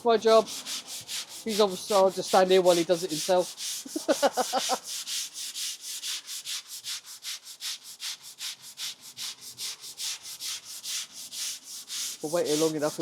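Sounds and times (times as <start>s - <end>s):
sanding block rasping strokes: 0.0s - 13.0s.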